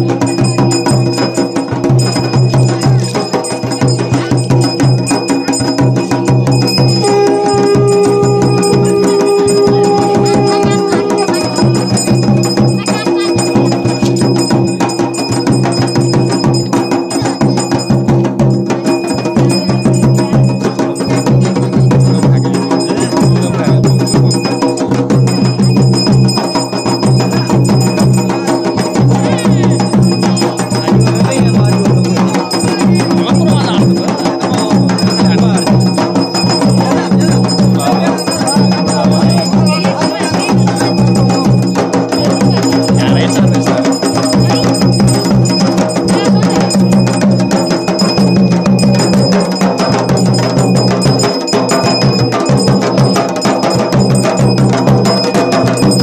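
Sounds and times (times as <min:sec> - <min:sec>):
bells ringing: 0:00.0 - 0:56.0
fast drumming: 0:00.0 - 0:56.0.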